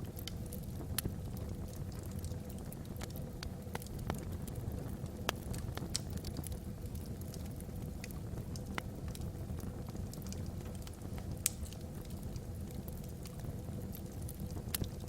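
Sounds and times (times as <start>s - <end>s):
fireplace fire rumbling: 0.0s - 15.0s
wood crackling and popping: 0.0s - 15.0s.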